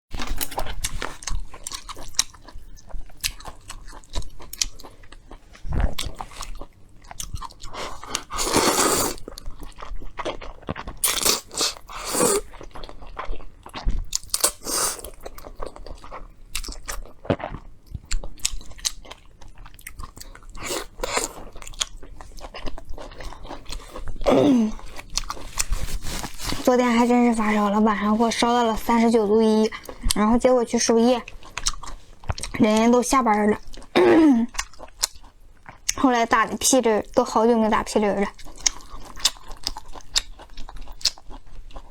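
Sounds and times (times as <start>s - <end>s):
person chewing crunchy food: 0.1s - 30.2s, 31.1s - 32.9s, 33.5s - 36.0s, 38.2s - 41.9s.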